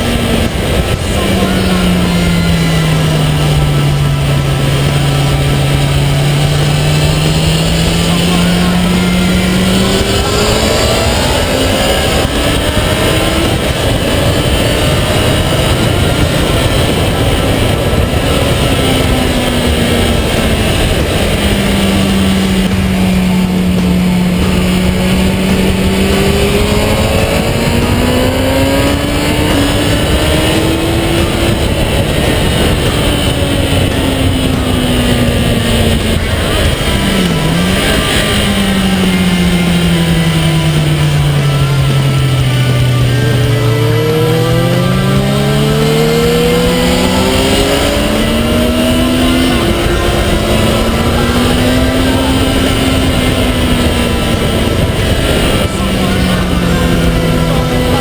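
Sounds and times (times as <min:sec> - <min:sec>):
motorcycle engine at speed: 0:00.0 - 0:58.0
wind and road rush: 0:00.0 - 0:58.0.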